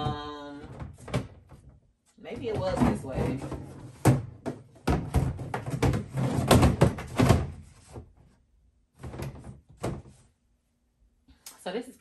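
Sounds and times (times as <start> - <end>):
plastic tanks bumping and scraping: 0.0 - 8.3, 8.9 - 10.3.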